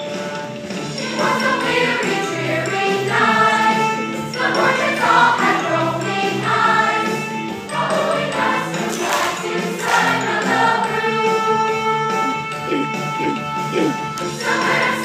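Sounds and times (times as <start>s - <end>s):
instrumental accompaniment: 0.0s - 15.0s
group of voices singing: 1.0s - 15.0s.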